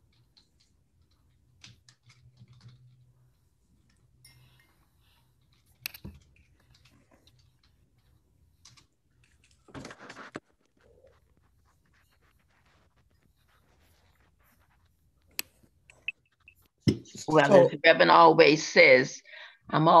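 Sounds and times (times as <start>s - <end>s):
faint clicks and handling noises: 0.0s - 16.8s.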